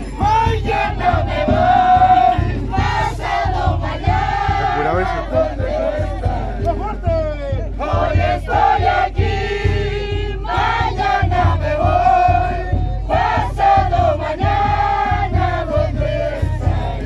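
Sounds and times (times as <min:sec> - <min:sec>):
voices singing long held notes: 0:00.0 - 0:06.8, 0:07.7 - 0:17.0
steady low beat: 0:00.0 - 0:17.0.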